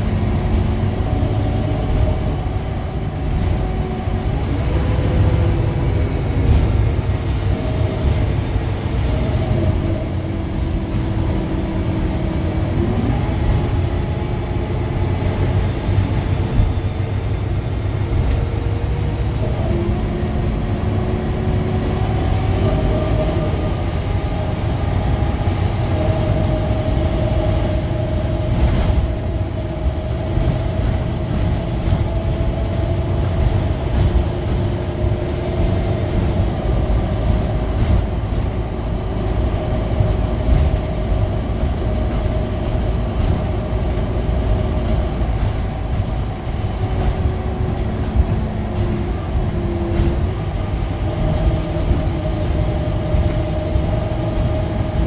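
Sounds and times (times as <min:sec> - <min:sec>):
bus engine and transmission whine: 0:00.0 - 0:55.0.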